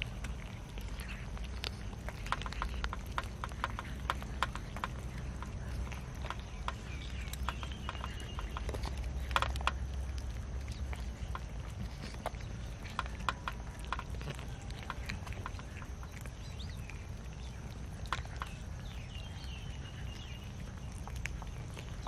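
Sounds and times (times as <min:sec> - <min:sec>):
cats chewing and lip-smacking: 0:00.0 - 0:22.0
low steady rumble: 0:00.0 - 0:22.0.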